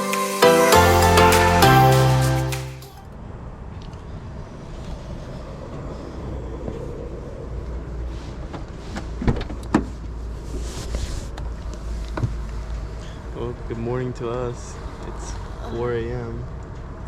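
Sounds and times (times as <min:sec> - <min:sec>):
vehicle rumble from inside: 0:03.1 - 0:17.0.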